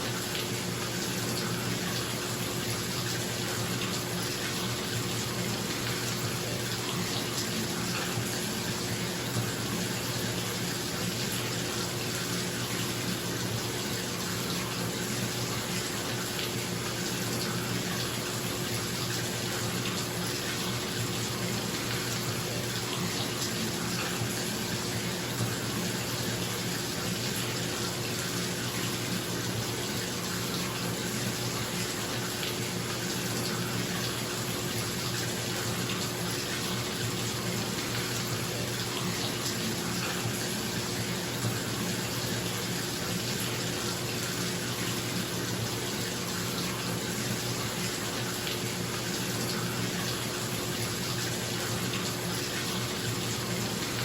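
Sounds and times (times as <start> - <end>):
faucet running into tub: 0.0 - 54.0.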